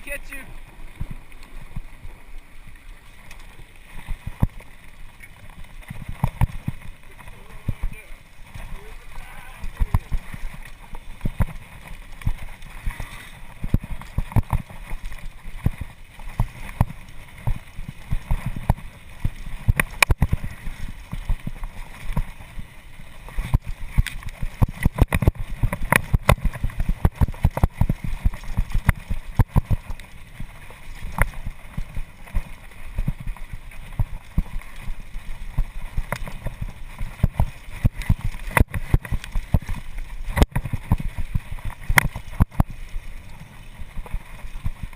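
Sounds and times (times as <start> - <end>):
low rumble of bike riding: 0.0 - 44.9.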